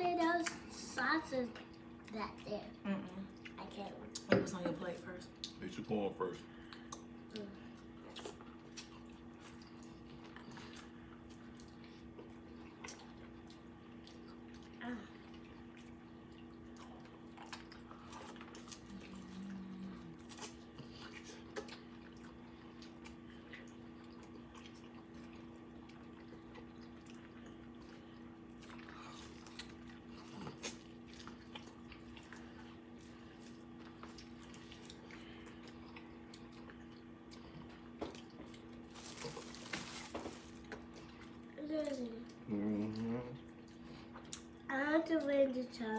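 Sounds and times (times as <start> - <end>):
low electrical hum: 0.0 - 45.9
people chewing corn on the cob: 5.4 - 44.6.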